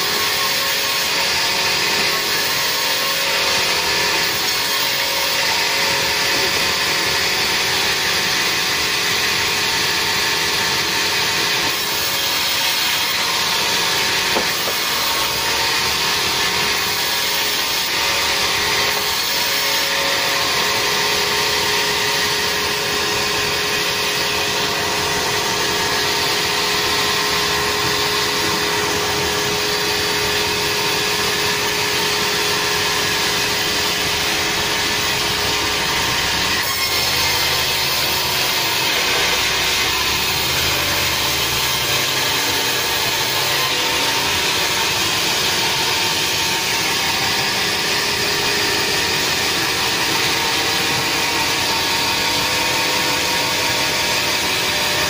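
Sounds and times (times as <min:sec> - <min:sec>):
band saw cutting timber: 0:00.0 - 0:55.0.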